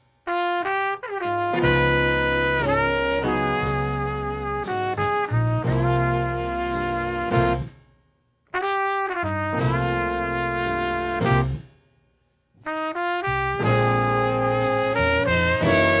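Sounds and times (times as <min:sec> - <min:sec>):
bass: 0:00.0 - 0:16.0
horns playing melody: 0:00.3 - 0:07.7, 0:08.6 - 0:11.6, 0:12.6 - 0:16.0
jazz band playing: 0:00.3 - 0:07.7, 0:08.6 - 0:11.6, 0:12.6 - 0:16.0.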